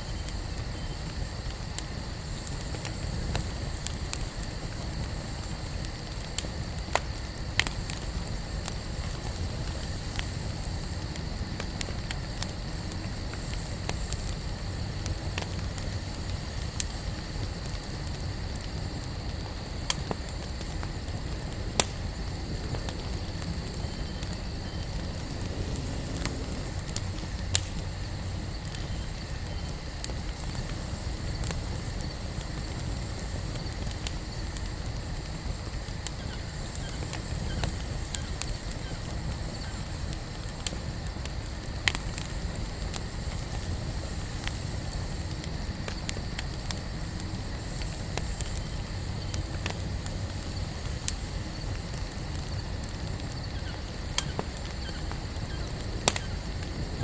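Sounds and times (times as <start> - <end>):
campfire low rush: 0.0 - 57.0
fire pops and snaps: 0.1 - 57.0.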